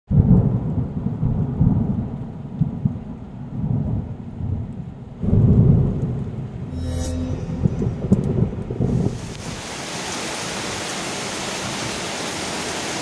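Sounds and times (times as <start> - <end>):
rain in a storm: 0.1 - 6.6, 9.0 - 13.0.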